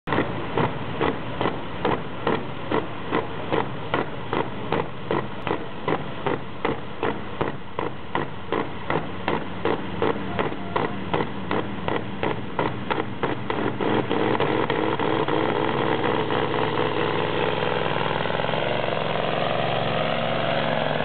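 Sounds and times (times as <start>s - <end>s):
diesel engine under heavy load: 0.0s - 21.0s.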